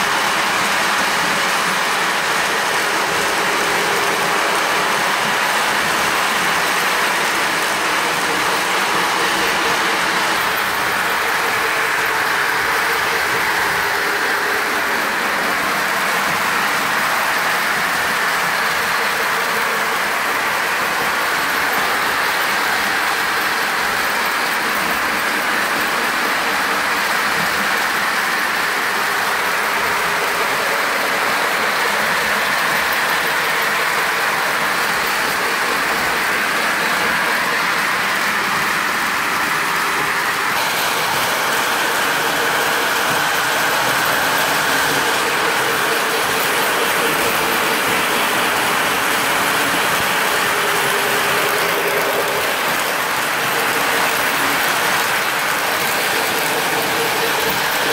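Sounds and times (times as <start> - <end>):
metal wheels clattering on rails: 0.0 - 57.9.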